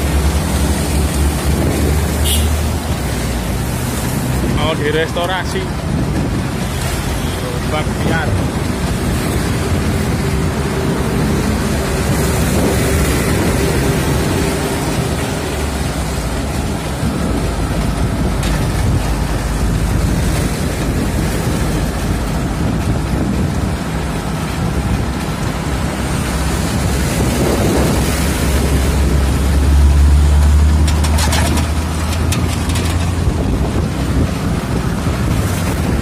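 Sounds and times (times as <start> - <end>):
wind buffeting microphone: 0.0 - 36.0
scooter engine and tyre rumble: 5.7 - 36.0.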